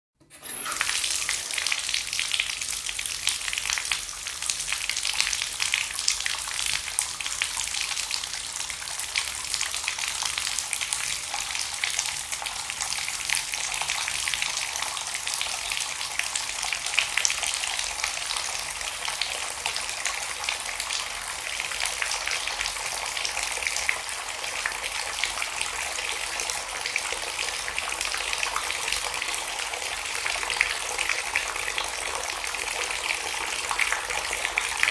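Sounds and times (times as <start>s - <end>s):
water pouring: 0.4s - 34.9s.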